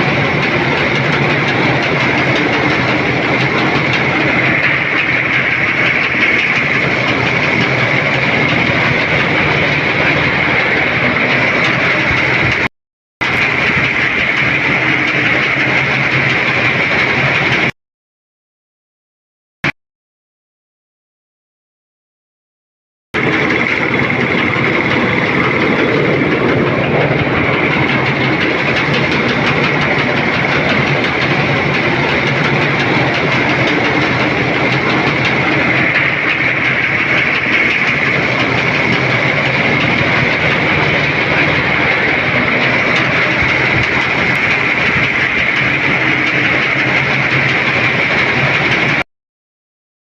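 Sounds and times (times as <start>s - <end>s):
air compressor running: 0.0s - 17.8s, 23.2s - 49.0s.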